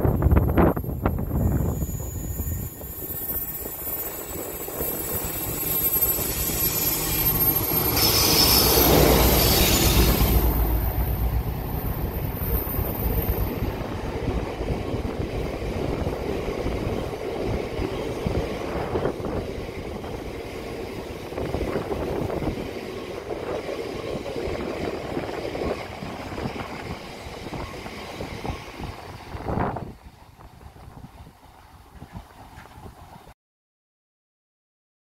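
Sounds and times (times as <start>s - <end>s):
train wheels rumbling on track: 0.0s - 33.3s.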